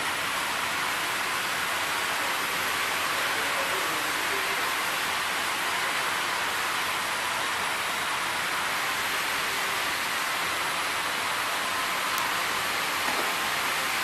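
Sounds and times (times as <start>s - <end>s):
steady even hiss: 0.1s - 14.0s.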